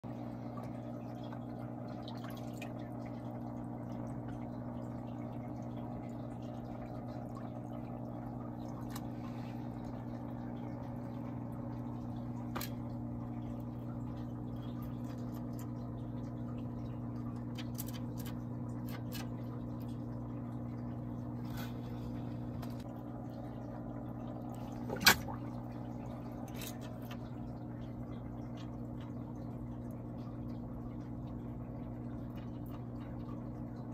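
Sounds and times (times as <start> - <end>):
aquarium filter humming: 0.0 - 33.9
faint dripping water: 0.0 - 33.9.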